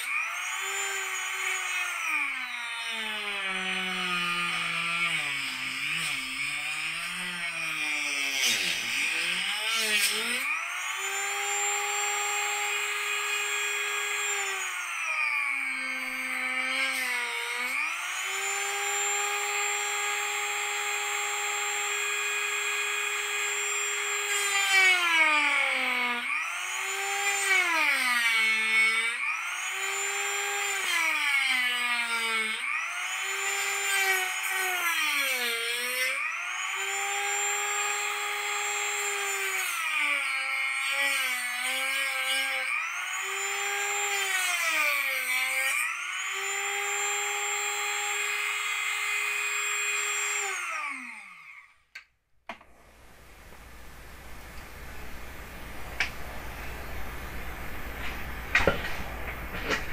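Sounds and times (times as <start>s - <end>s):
rotary tool cutting plastic: 0.0s - 52.7s, 58.0s - 59.9s.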